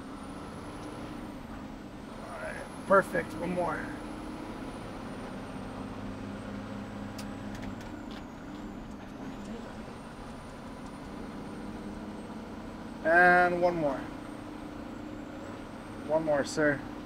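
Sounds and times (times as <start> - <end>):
diesel truck engine running: 0.0 - 17.0
road noise: 0.0 - 17.0.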